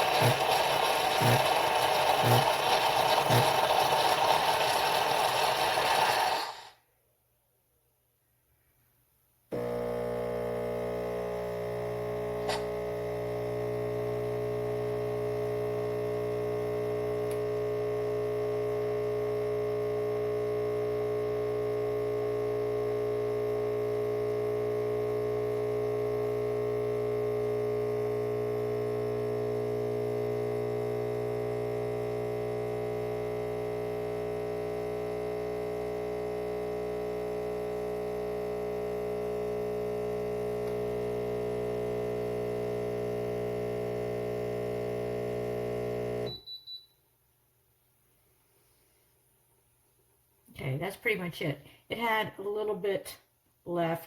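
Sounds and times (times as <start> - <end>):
espresso machine pump humming: 0.0 - 6.8, 9.6 - 46.3.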